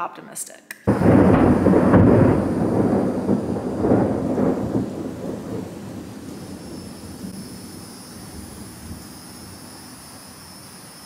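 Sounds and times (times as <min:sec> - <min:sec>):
thunder rumbling: 0:00.9 - 0:10.8.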